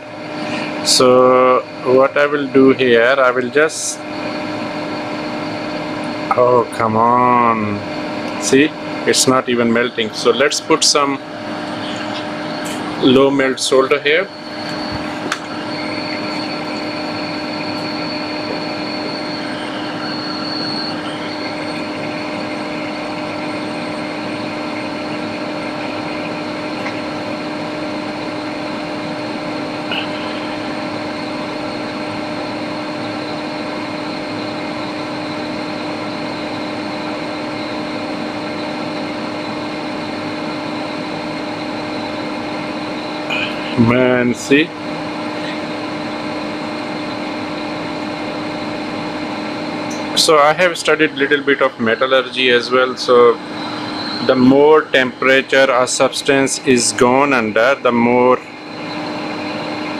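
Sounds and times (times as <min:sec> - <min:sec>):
blower hum: 0:00.0 - 0:59.9
hot air station blowing: 0:00.0 - 0:59.9.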